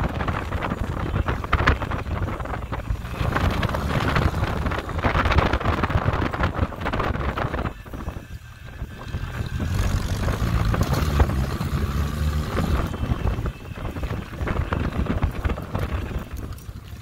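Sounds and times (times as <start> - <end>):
jeep engine running: 0.0 - 17.0
wind on microphone: 0.0 - 17.0.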